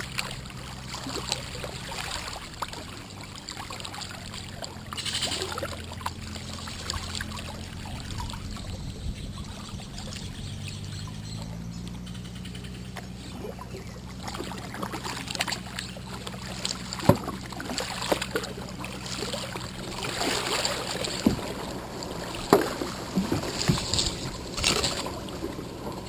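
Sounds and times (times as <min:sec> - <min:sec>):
low hum: 0:00.0 - 0:26.0
water splashes: 0:00.0 - 0:26.0
water trickling against kayak: 0:00.0 - 0:26.0.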